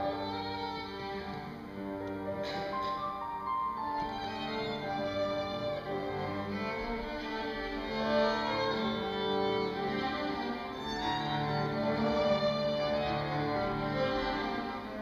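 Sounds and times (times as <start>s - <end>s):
violin and cello chamber music: 0.0s - 15.0s.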